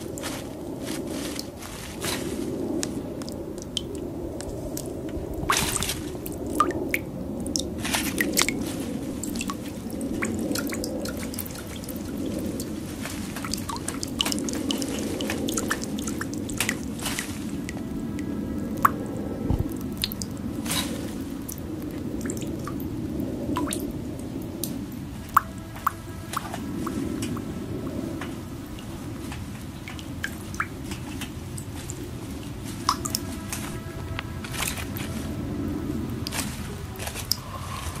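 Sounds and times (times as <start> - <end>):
steady low drone: 0.0 - 38.0
wet drips and clicks: 2.7 - 34.9.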